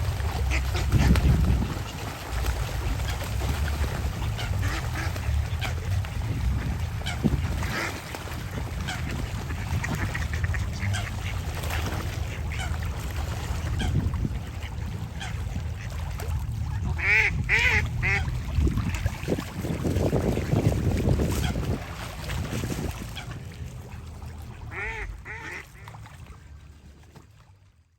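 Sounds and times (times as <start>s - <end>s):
ducks quacking: 0.0s - 26.1s.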